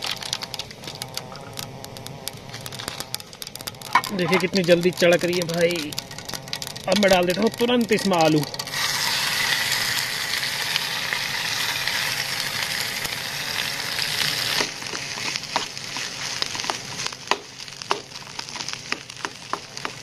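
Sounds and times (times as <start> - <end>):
potatoes sizzling in oil: 0.0 - 20.0.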